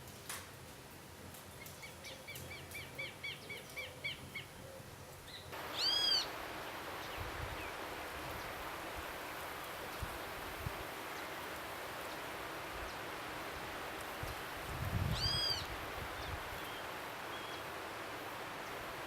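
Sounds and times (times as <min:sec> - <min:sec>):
steady outdoor hiss: 0:00.0 - 0:19.0
wild birds calling: 0:01.8 - 0:19.0.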